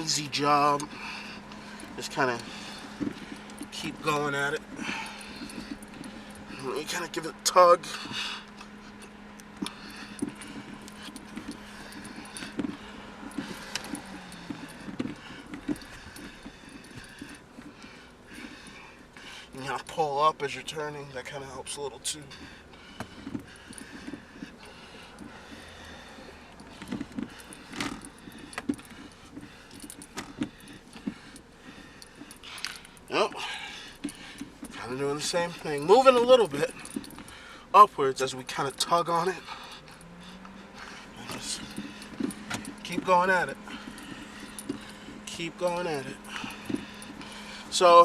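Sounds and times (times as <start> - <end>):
shifter knob clicking and scraping: 0.0 - 19.1, 22.1 - 33.1, 38.5 - 48.0
faint steady hum: 0.0 - 48.0.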